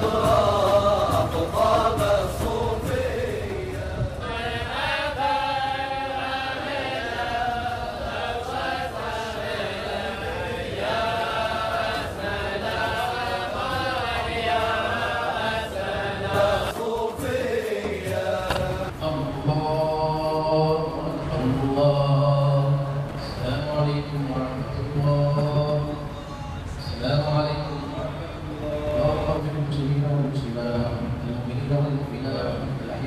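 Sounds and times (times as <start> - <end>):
men chanting devotional song: 0.0 - 33.0.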